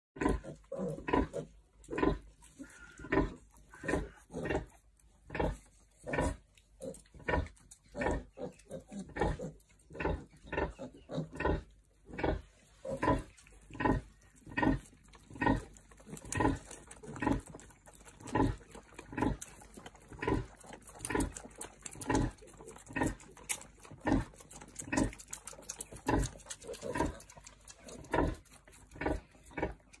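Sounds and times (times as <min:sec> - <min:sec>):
sow grunting: 0:00.2 - 0:29.9.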